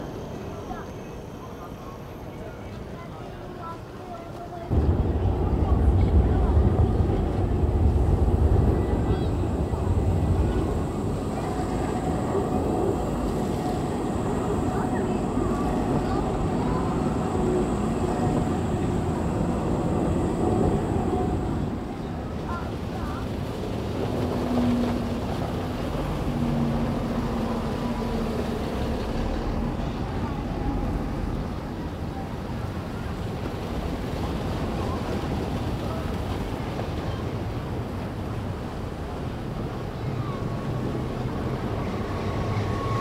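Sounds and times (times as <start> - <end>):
tram wheels rumbling: 4.5 - 43.0.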